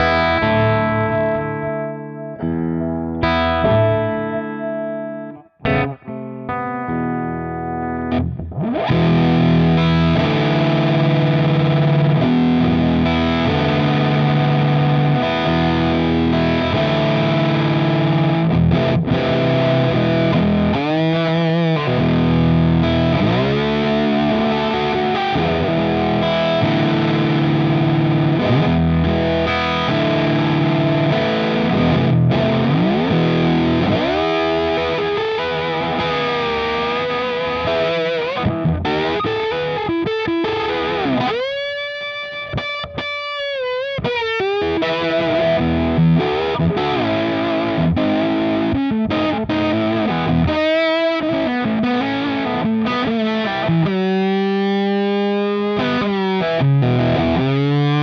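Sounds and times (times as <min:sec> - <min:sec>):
fuzz slide guitar: 0:00.0 - 0:58.0.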